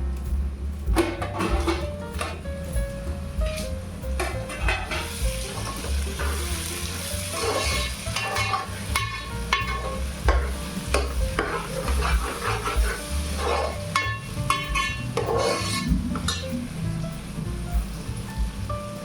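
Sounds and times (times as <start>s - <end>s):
onion sizzling in hot oil: 0.2s - 19.0s.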